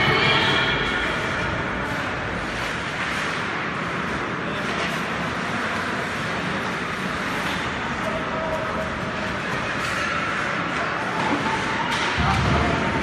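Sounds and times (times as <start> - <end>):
rink hall rushing noise: 0.0 - 13.0.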